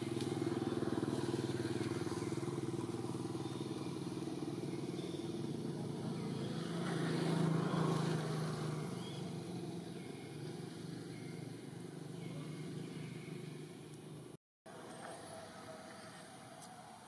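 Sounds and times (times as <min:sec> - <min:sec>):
engine running: 0:00.0 - 0:16.6.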